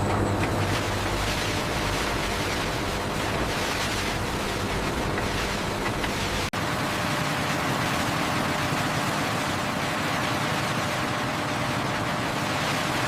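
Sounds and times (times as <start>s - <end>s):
hiss of running machinery: 0.0s - 13.0s.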